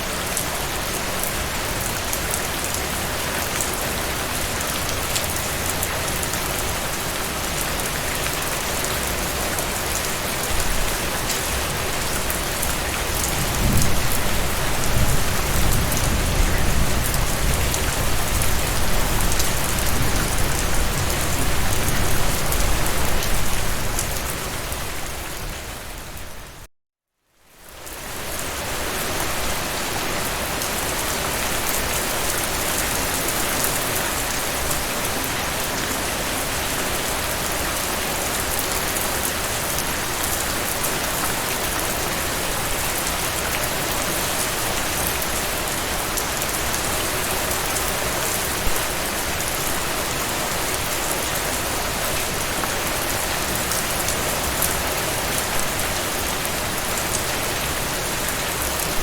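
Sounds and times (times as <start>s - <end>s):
steady rain falling: 0.0s - 26.7s, 27.4s - 59.0s.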